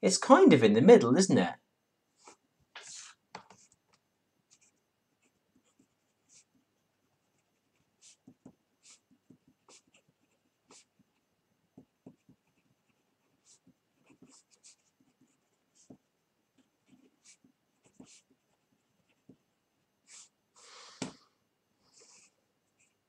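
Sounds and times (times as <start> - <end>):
pen scratching on paper: 2.2 - 3.8, 4.5 - 20.4, 21.9 - 23.0.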